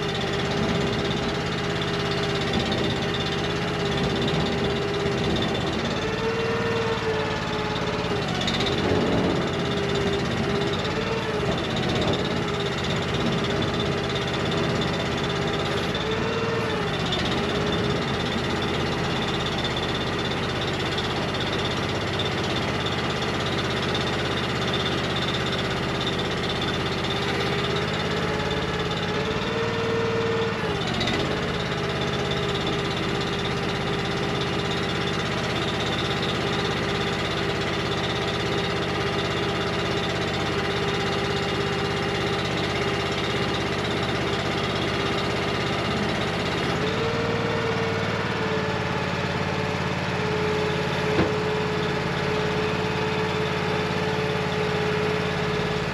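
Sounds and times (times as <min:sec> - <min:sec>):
engine running hydraulics: 0:00.0 - 0:55.9.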